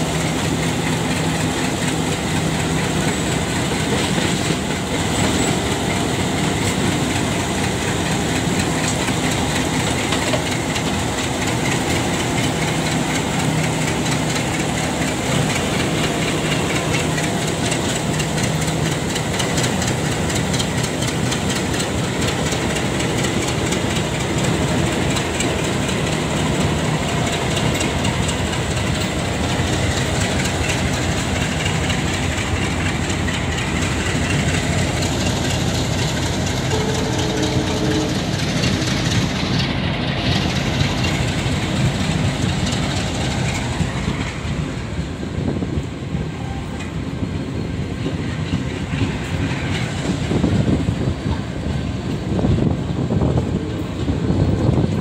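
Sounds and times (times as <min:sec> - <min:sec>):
train wheels clicking on rails: 0:00.0 - 0:55.0.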